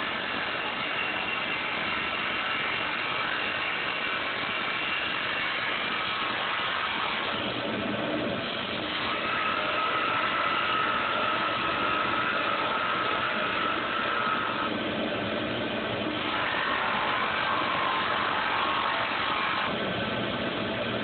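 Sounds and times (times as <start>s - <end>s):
high-pitched whine: 0.0s - 21.0s
lathe motor humming: 0.0s - 21.0s.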